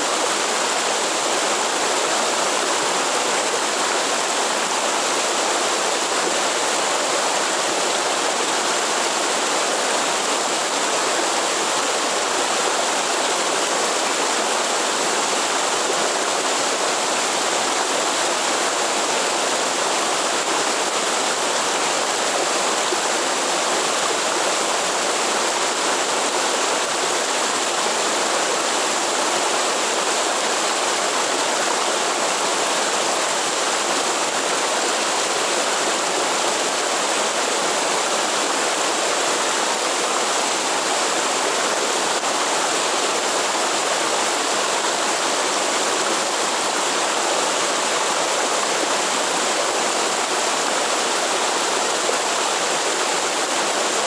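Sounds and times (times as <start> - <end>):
waterfall pouring and splashing: 0.0 - 54.0.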